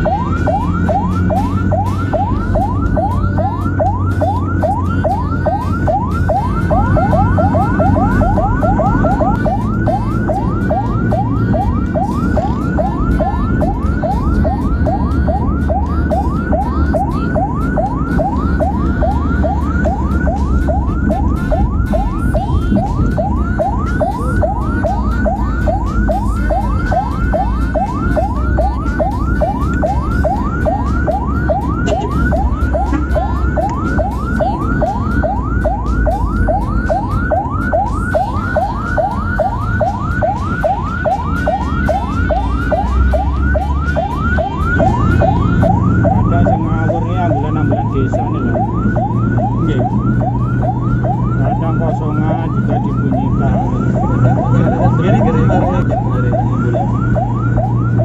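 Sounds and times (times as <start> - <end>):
ambulance siren yelping: 0.0 - 58.0
engine and road rumble: 0.0 - 58.0.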